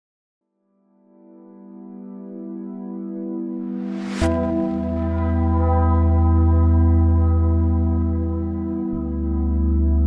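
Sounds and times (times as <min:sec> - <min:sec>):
sustained swelling chord music: 0:01.7 - 0:10.0.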